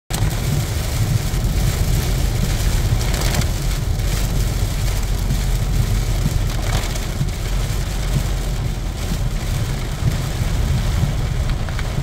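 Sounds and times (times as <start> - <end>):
car driving on wet road: 0.1 - 12.0
rain on car windshield: 0.1 - 12.0.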